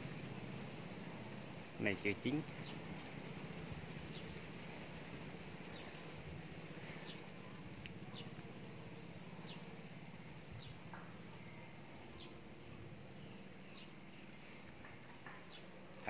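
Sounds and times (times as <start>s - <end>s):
bird chirping: 0.0s - 16.0s
faint low hum: 0.0s - 16.0s.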